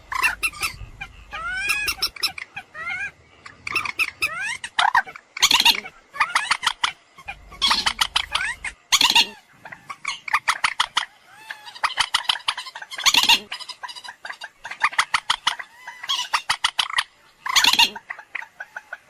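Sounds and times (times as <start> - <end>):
moorhen clicking calls: 0.0 - 19.0.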